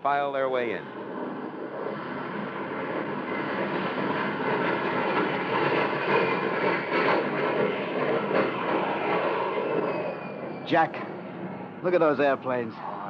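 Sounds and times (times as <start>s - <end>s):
jet airplanes roaring overhead: 0.0s - 13.0s.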